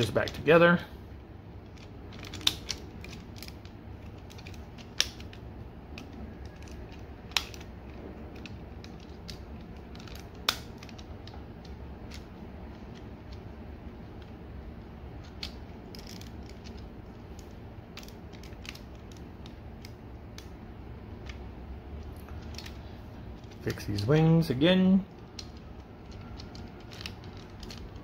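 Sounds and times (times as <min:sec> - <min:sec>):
plastic parts clicking and snapping: 0:01.6 - 0:14.4, 0:15.1 - 0:24.2, 0:25.1 - 0:28.0.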